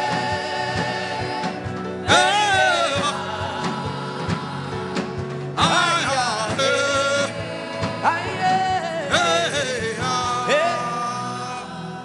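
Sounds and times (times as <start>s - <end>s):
instrumental accompaniment: 0.0s - 12.0s.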